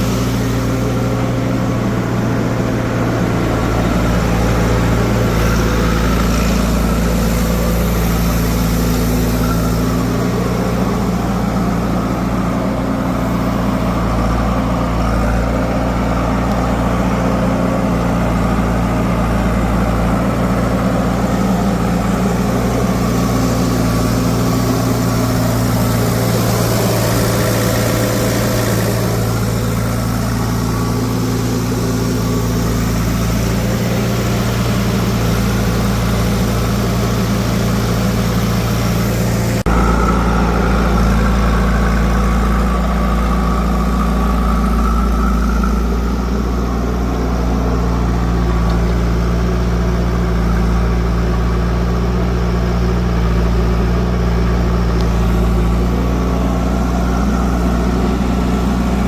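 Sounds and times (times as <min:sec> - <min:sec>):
diesel machinery engines running: 0:00.0 - 0:59.0.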